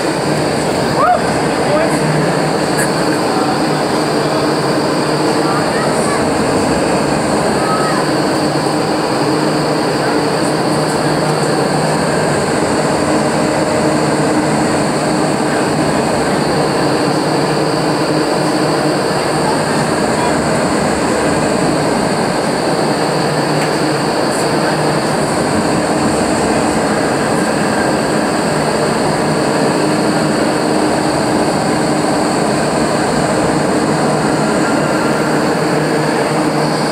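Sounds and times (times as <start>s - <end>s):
low hum of held tones: 0.0s - 36.9s
roar of rushing air and fans: 0.0s - 36.9s.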